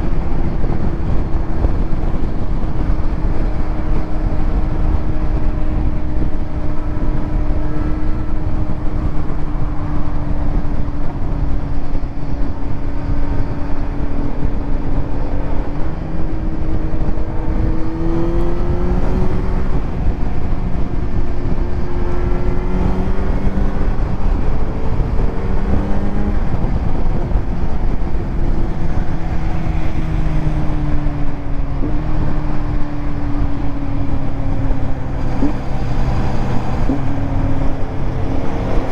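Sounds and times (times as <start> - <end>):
motorcycle engine while riding: 0.0 - 38.9
wind rumble on microphone: 0.0 - 38.9.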